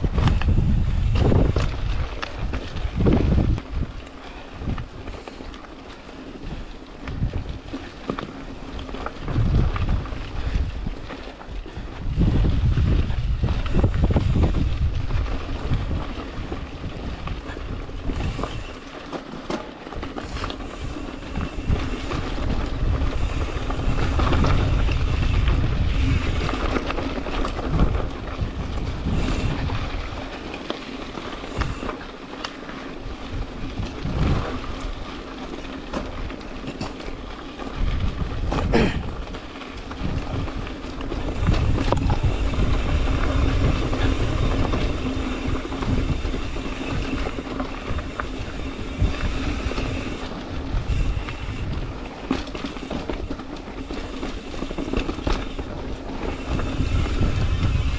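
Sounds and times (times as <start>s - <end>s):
wind buffeting microphone: 0.0s - 19.2s, 19.8s - 57.9s
mountain bike rolling on trail: 0.0s - 57.9s.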